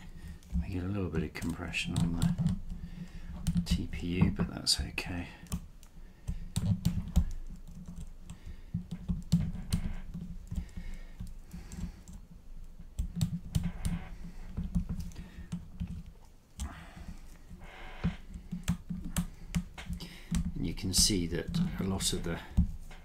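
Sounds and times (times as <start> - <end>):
light clicks and taps of parts: 0.0 - 17.6, 18.2 - 23.0.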